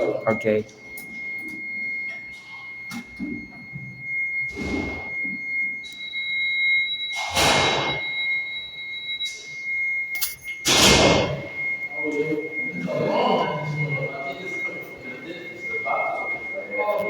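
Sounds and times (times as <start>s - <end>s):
high-pitched electronic alarm tone: 0.0s - 17.0s.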